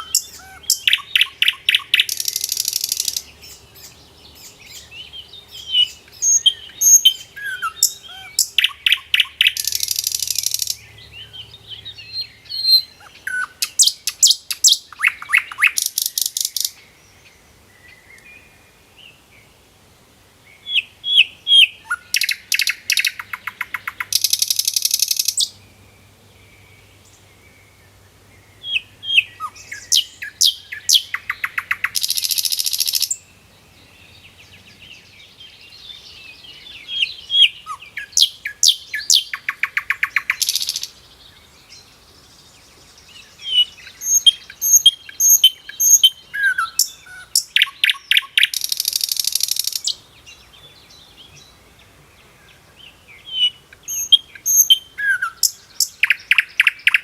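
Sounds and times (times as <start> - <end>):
birds chirping and trilling: 0.0 - 19.6, 20.5 - 57.0.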